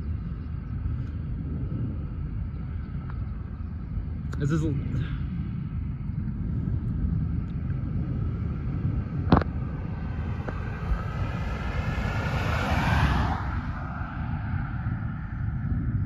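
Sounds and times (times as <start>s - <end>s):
vehicle passing on highway: 0.0s - 16.0s
wind rumbling on microphone: 0.0s - 16.0s.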